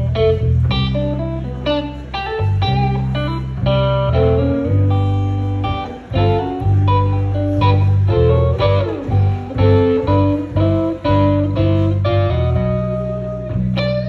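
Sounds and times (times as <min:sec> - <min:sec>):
bass line: 0:00.0 - 0:14.0
electric guitar solo: 0:00.0 - 0:14.0.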